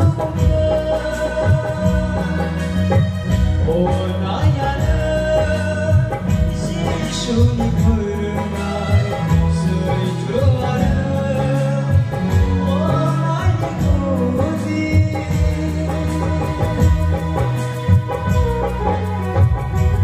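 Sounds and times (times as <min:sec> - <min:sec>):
man singing into a microphone: 0:00.0 - 0:19.9
amplified instrumental accompaniment: 0:00.0 - 0:20.0.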